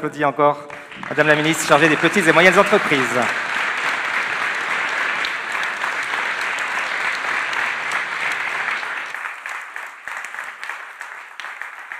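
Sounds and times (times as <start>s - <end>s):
audience applauding: 0.7s - 11.9s.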